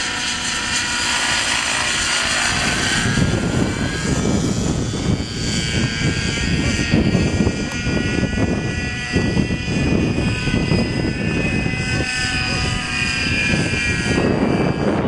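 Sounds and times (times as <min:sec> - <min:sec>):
model helicopter rotor whine: 0:00.0 - 0:15.0
wind on microphone: 0:00.0 - 0:15.0.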